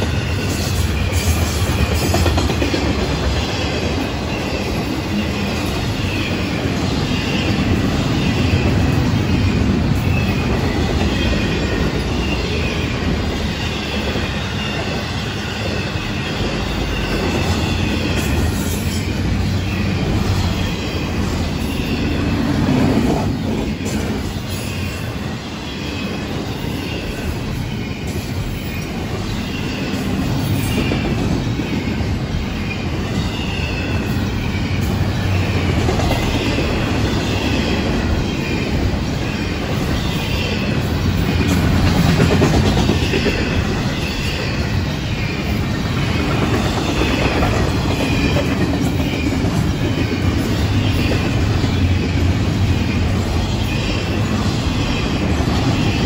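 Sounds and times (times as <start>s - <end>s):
rumble of steel wheels on rail: 0.0s - 56.0s.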